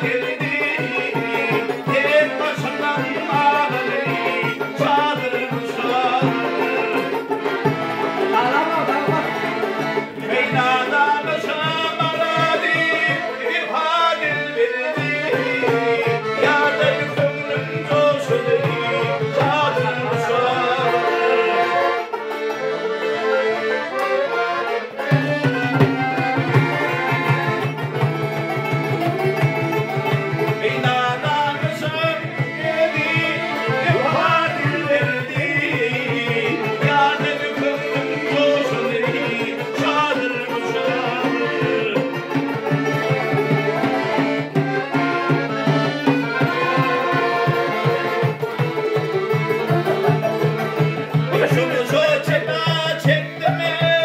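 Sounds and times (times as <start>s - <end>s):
man singing: 0.0s - 22.2s, 25.1s - 54.0s
accordion: 0.0s - 54.0s.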